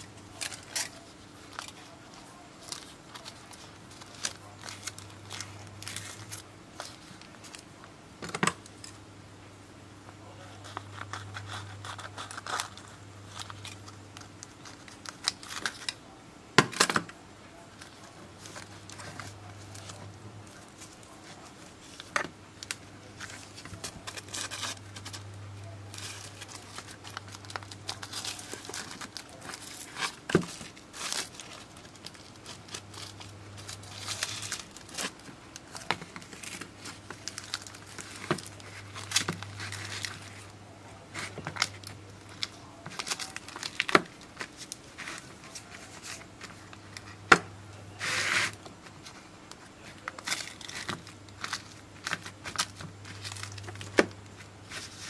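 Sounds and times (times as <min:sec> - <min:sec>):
film crinkling and tearing: 0:00.0 - 0:07.8, 0:10.4 - 0:16.2, 0:17.6 - 0:47.2, 0:47.9 - 0:55.0.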